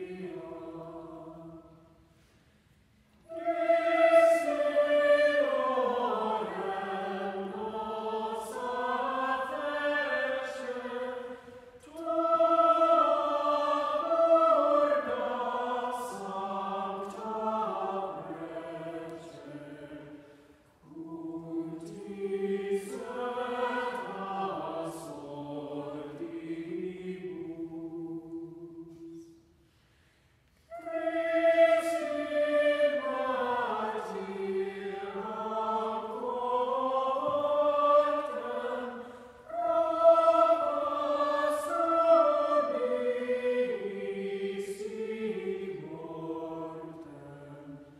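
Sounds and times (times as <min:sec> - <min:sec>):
mixed choir singing a cappella: 0:00.0 - 0:02.3, 0:03.2 - 0:29.5, 0:30.7 - 0:47.9.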